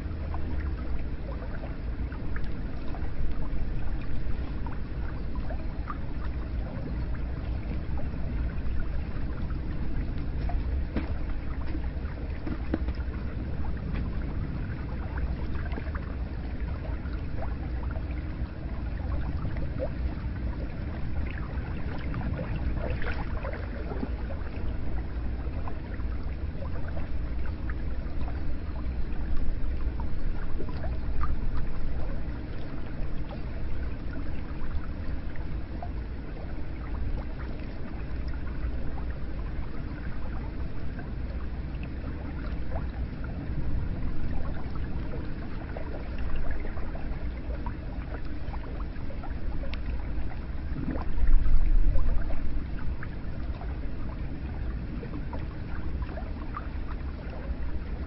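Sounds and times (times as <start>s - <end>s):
water splashing and gurgling: 0.0s - 58.0s.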